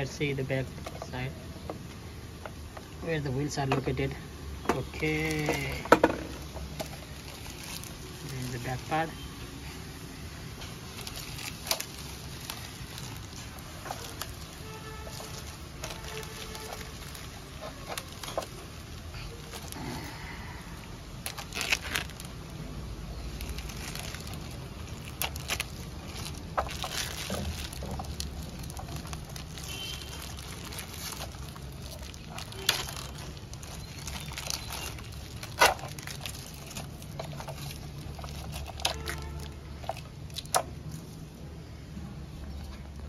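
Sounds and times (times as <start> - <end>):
plastic wrap crinkling: 0.0 - 41.4.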